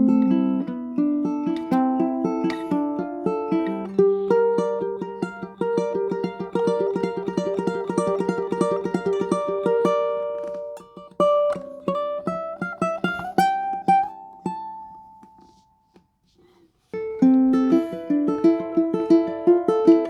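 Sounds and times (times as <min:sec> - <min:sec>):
ukulele fingerpicking: 0:00.0 - 0:20.0.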